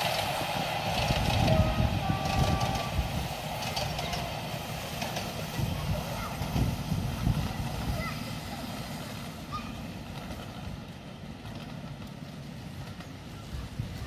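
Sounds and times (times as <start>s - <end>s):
miniature train rumbling on track: 0.0s - 14.0s.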